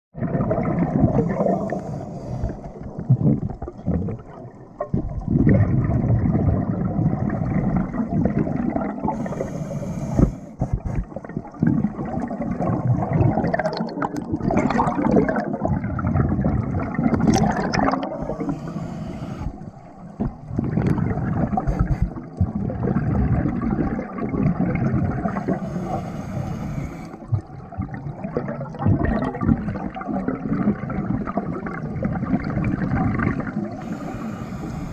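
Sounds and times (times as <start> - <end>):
underwater regulator bubbling: 0.2 - 34.9.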